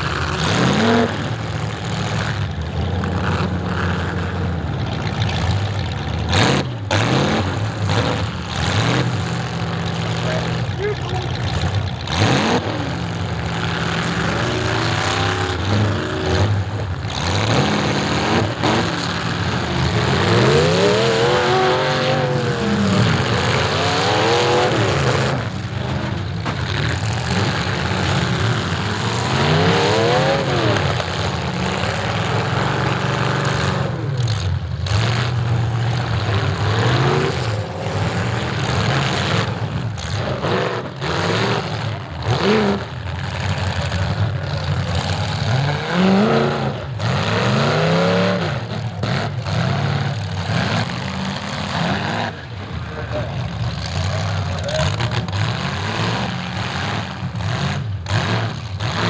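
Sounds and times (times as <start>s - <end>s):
car engines revving: 0.0s - 59.0s
steady engine noise: 0.0s - 59.0s.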